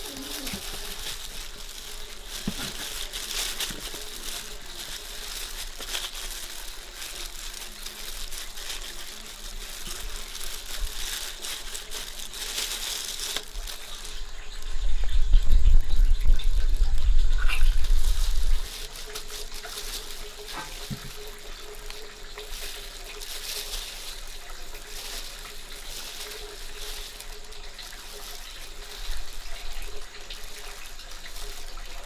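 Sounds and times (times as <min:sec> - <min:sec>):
water running and splashing: 0:00.0 - 0:32.0.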